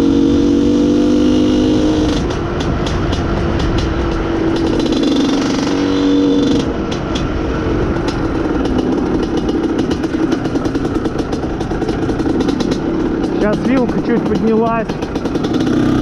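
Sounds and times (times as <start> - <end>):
two-stroke engine running: 0.0 - 16.0.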